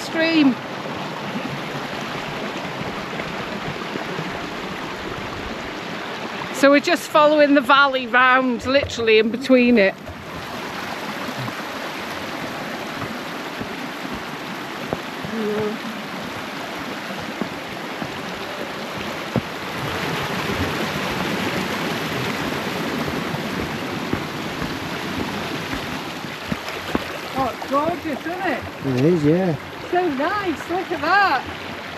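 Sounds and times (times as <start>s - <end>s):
stream rushing over rocks: 0.0s - 31.9s.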